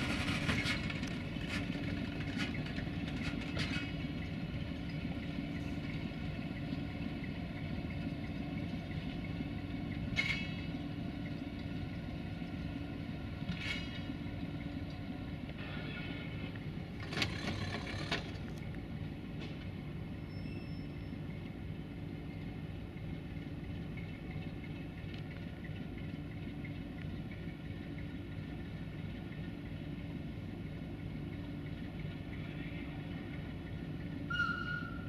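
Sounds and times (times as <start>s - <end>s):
locomotive diesel engine humming: 0.0s - 35.0s.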